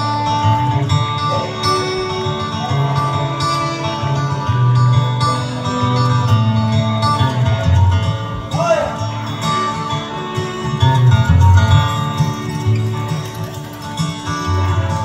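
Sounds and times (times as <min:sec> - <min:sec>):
acoustic guitar strumming: 0:00.0 - 0:15.0
fiddle melody: 0:00.0 - 0:15.0.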